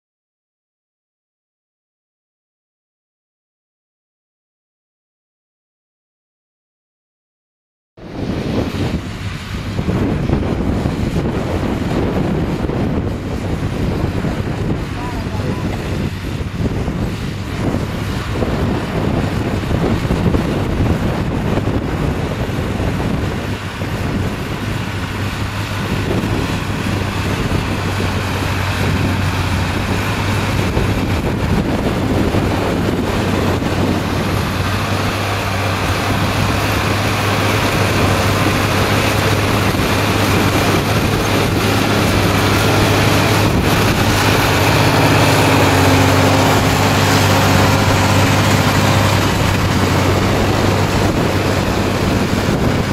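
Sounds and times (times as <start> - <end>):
tractor engine running: 8.0 - 52.9.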